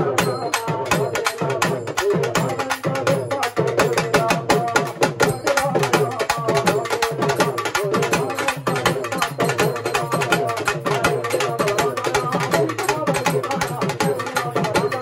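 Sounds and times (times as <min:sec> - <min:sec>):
hourglass drums in fast rhythm: 0:00.0 - 0:15.0.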